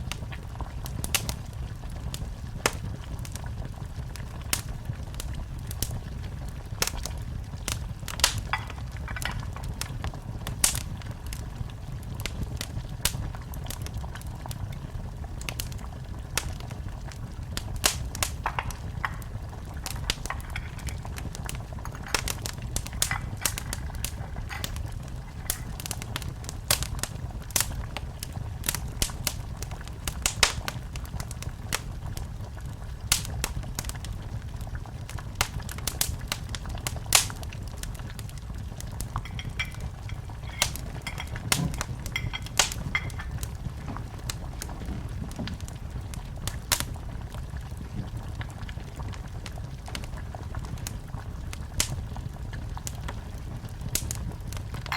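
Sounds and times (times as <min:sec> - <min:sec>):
faint fire hiss: 0:00.0 - 0:54.9
fire crackling and popping: 0:00.0 - 0:54.9
fire rumbling: 0:00.0 - 0:54.9.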